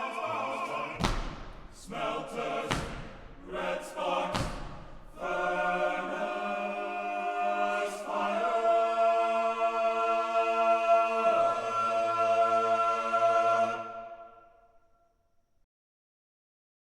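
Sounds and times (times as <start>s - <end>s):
male choir holding a chord: 0.0s - 1.0s, 1.8s - 14.4s.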